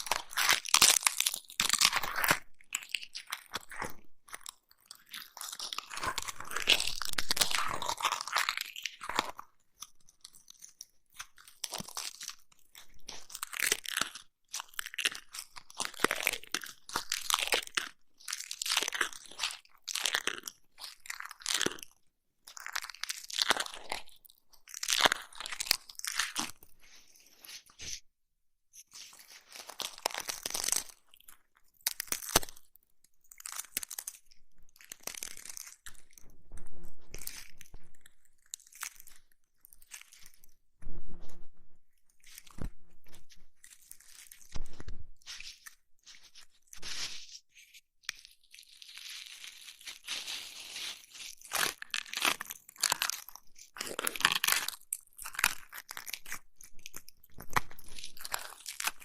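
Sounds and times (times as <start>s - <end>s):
rubbing and crinkly scratching: 0.0s - 28.1s, 28.8s - 59.0s.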